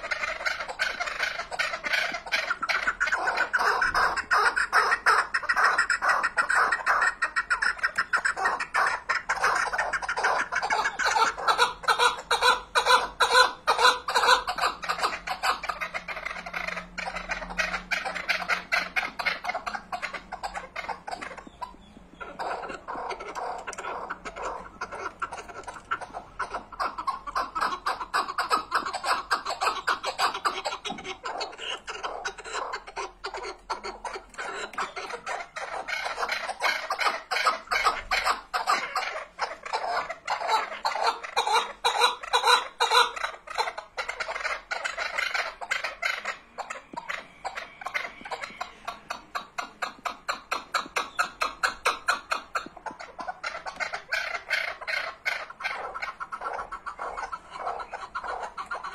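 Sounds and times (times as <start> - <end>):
partridge clucking calls: 0.0 - 58.9.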